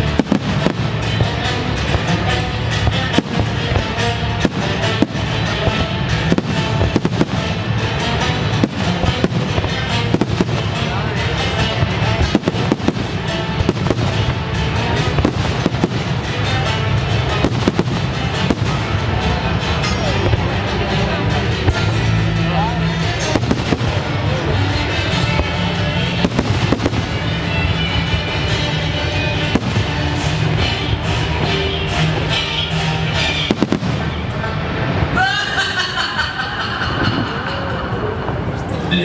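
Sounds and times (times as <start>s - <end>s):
fireworks bursting and crackling: 0.0s - 22.0s, 23.0s - 35.4s
loud music: 0.0s - 37.8s.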